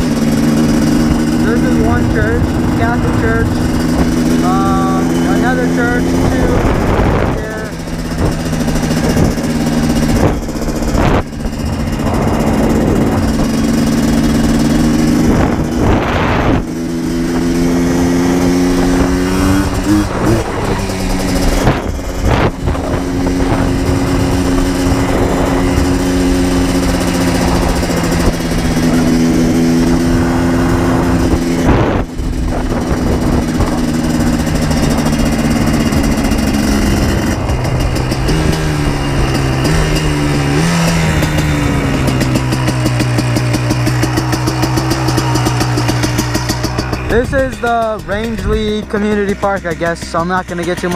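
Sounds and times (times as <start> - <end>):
two-stroke atv engine running: 0.0 - 50.9.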